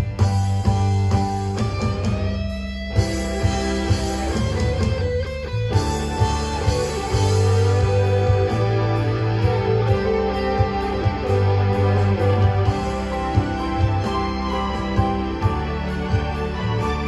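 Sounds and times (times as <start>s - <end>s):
drums: 0.0s - 17.0s
electric bass: 0.0s - 17.0s
electric guitar melody with bends: 0.0s - 17.0s.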